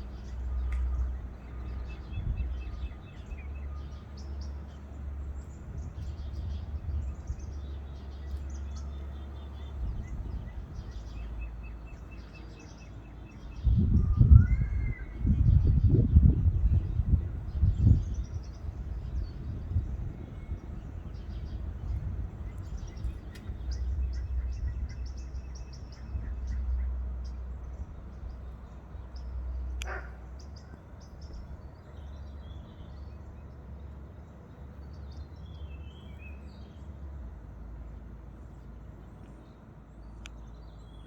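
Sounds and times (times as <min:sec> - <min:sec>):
wind rumble on microphone: 0:00.0 - 0:34.4
small birds chirping: 0:00.0 - 0:41.0.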